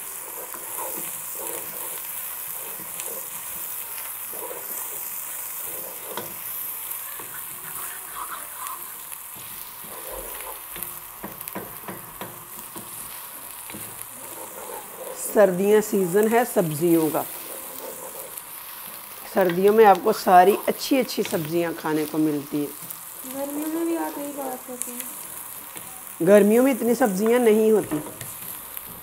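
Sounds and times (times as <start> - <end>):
onions sizzling in a pot: 0.0 - 29.0
wooden spoon scraping a pan: 0.0 - 29.0.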